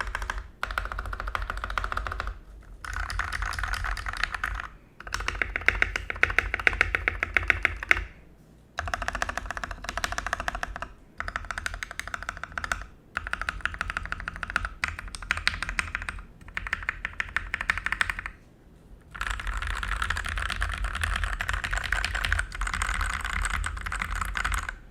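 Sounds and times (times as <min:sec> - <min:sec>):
fast typing on mechanical keyboard: 0:00.0 - 0:08.1, 0:08.8 - 0:18.4, 0:19.1 - 0:24.9.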